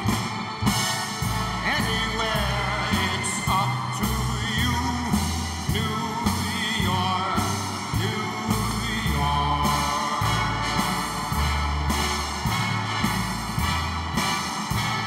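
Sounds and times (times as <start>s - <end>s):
song with singer and bass line: 0.0s - 15.0s.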